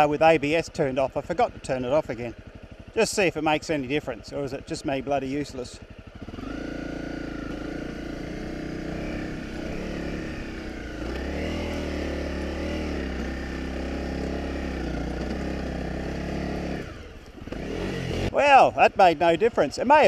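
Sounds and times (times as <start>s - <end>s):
motorcycle engine running under load: 0.0s - 20.0s.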